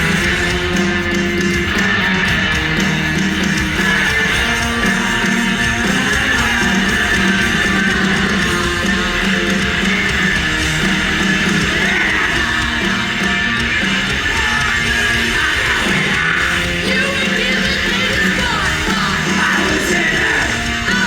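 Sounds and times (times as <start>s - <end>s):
punk rock band playing live: 0.0s - 21.0s.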